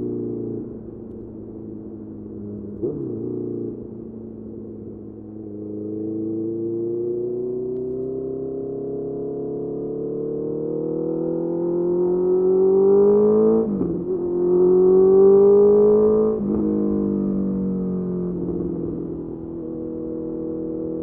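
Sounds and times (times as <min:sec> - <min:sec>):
motorcycle engine accelerating: 0:02.1 - 0:21.0.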